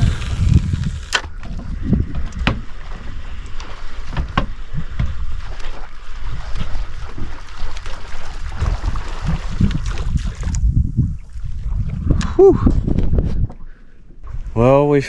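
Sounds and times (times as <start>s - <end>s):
wind buffeting microphone: 0.0s - 7.4s, 8.3s - 14.6s.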